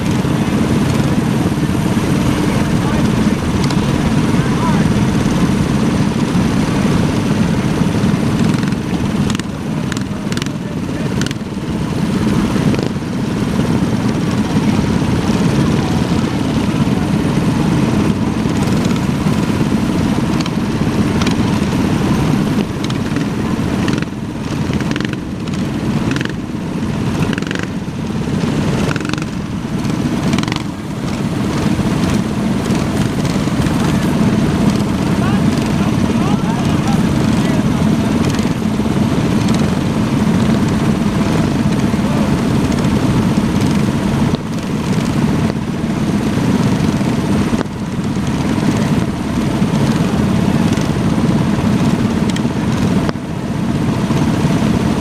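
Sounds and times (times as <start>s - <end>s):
small minibike engines running: 1.8s - 27.6s, 28.4s - 55.0s.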